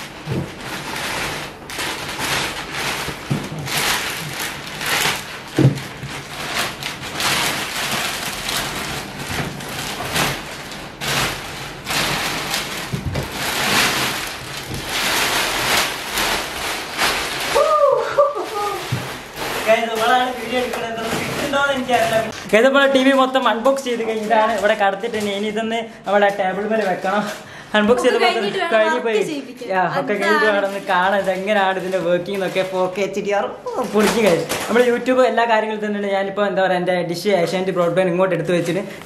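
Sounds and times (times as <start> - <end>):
plastic wrap rustling and crinkling: 0.0 - 39.0.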